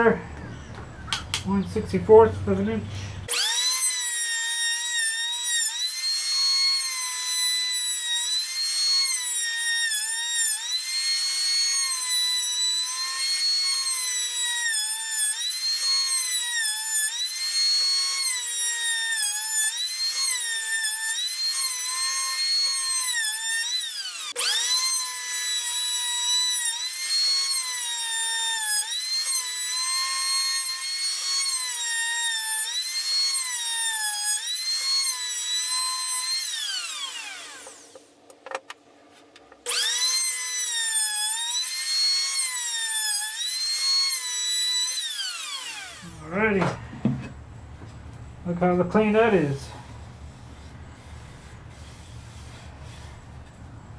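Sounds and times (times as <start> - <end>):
electric hand planer whining: 2.9 - 38.2, 39.6 - 53.9.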